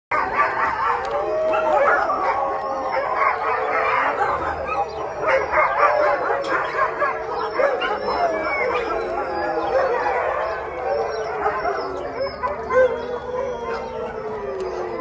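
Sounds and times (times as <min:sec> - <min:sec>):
dogs howling and barking: 0:00.1 - 0:15.0.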